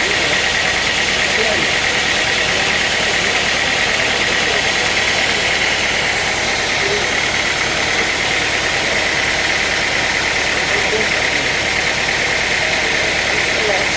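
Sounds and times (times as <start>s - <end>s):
sawmill machinery drone: 0.0s - 13.9s.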